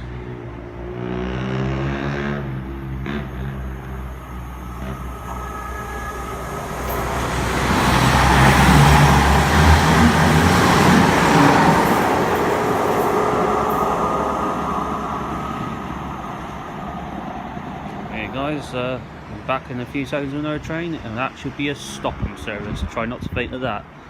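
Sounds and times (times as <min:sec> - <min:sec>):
train wheels rushing on rail: 0:00.0 - 0:22.3
diesel train engine drone: 0:00.0 - 0:22.9.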